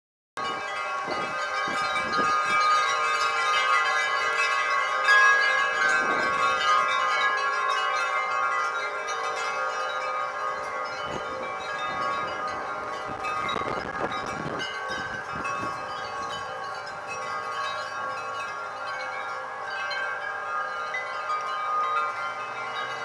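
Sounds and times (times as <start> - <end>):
metal wind chimes ringing: 0.4 - 23.0.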